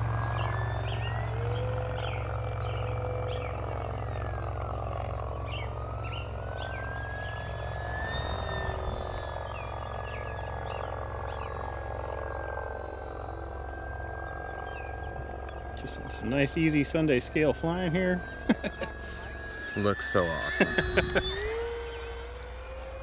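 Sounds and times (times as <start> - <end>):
model plane motor whine: 0.0 - 23.0.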